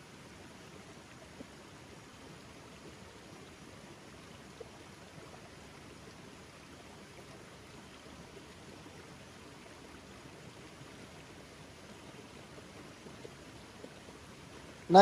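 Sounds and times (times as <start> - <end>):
stream water running: 0.0 - 15.0.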